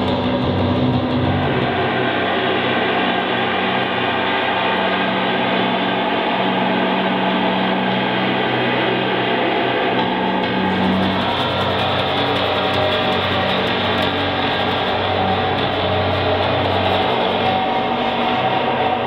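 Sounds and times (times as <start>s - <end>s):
low hum tones: 0.0s - 19.0s
noisy electronic drone: 0.0s - 19.0s.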